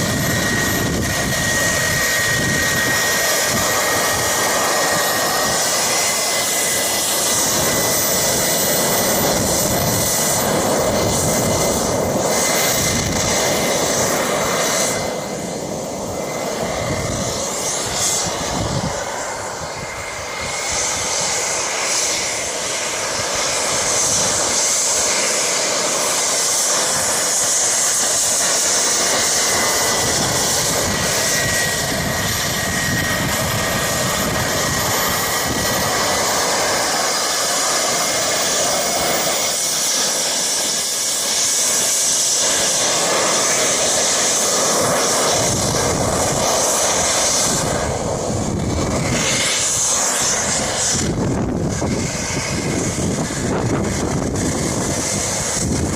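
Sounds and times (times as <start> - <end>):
high engine whine: 0.0 - 55.9
jet boat engine roaring: 0.0 - 55.9.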